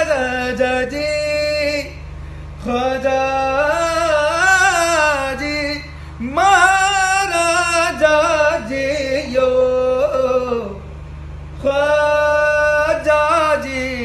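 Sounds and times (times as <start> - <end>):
man singing unaccompanied: 0.0 - 10.9, 11.6 - 14.0.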